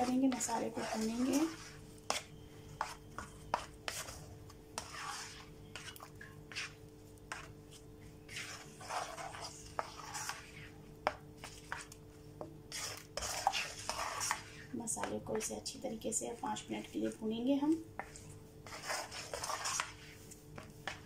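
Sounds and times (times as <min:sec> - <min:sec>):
spatula scraping a wok: 0:00.0 - 0:11.9, 0:12.6 - 0:15.5, 0:18.0 - 0:21.0.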